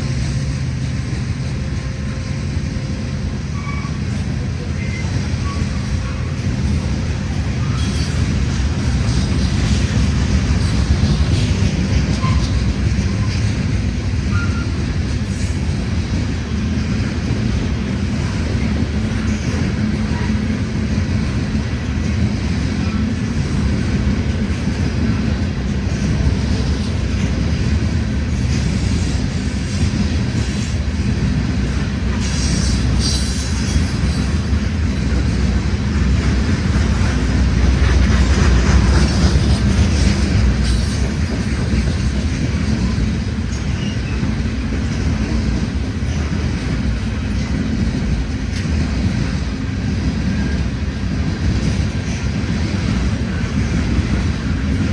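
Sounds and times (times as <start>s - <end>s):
freight train wheels rumbling on rails: 0.0s - 54.9s.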